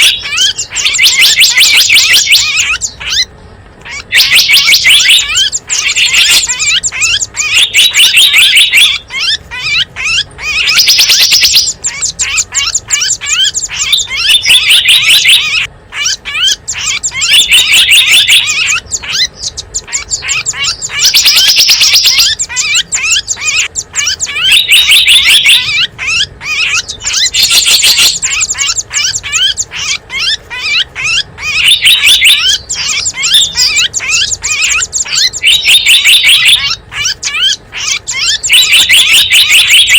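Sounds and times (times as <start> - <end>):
songbirds chirping rapidly: 0.0 - 39.9.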